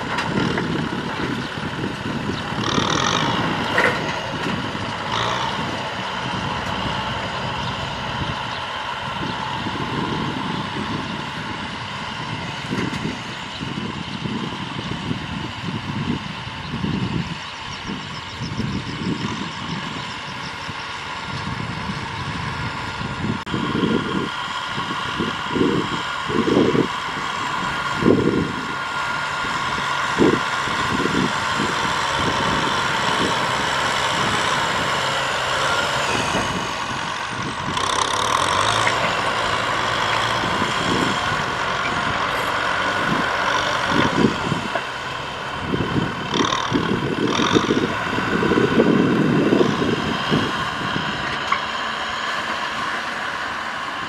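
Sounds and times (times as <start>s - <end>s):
tractor diesel engines running: 0.0s - 54.0s.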